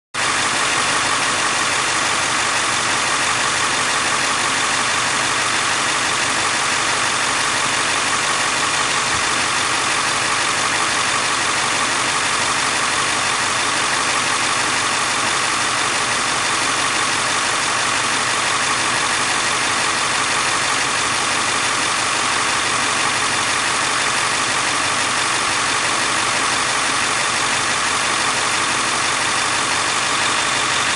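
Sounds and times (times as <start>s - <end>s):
diesel engine idling: 0.2s - 30.9s
engine ticking: 0.2s - 30.9s.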